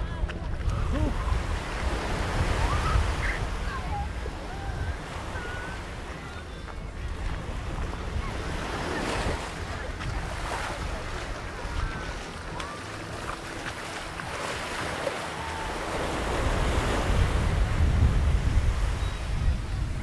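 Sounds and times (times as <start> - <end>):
small waves washing on sand: 0.0 - 20.0
wind rumbling on microphone: 0.0 - 20.0.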